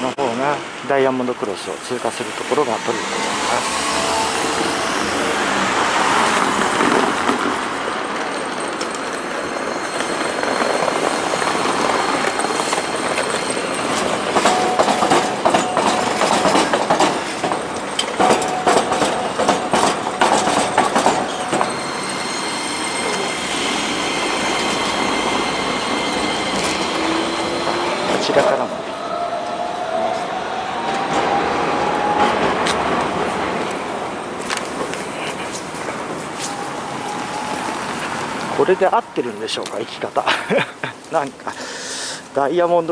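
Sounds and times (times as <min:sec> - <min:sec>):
tram running noise: 0:00.0 - 0:42.9
tram wheels clacking over crossing: 0:02.7 - 0:41.4.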